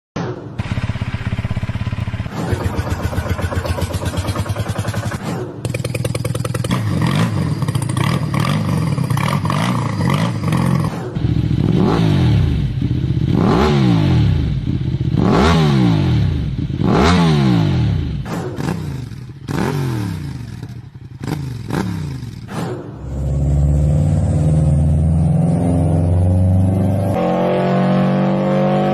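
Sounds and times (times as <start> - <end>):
engines running: 0.3 - 28.9.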